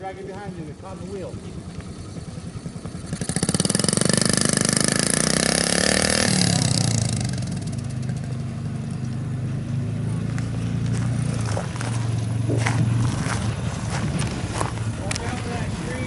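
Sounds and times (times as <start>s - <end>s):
dirt bike engine revving: 0.8s - 16.0s.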